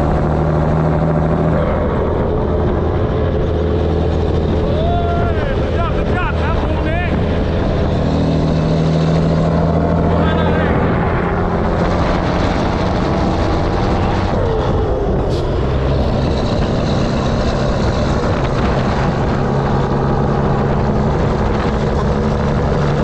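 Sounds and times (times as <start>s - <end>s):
diesel truck engine running: 0.0s - 23.0s
wind rushing past microphone: 0.0s - 23.0s.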